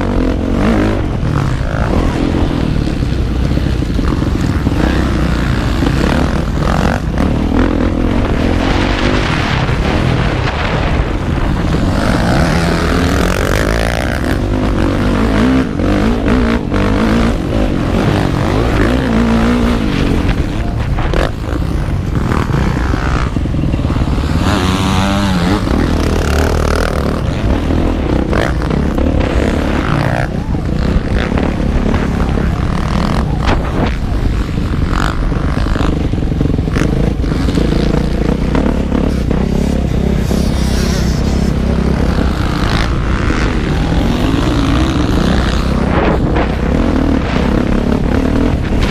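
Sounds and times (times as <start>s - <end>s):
motorcycle engine running hard: 0.0s - 48.9s.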